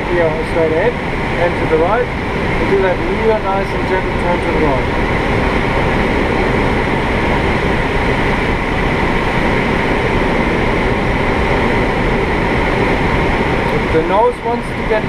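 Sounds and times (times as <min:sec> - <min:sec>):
rush of air around cockpit: 0:00.0 - 0:15.0.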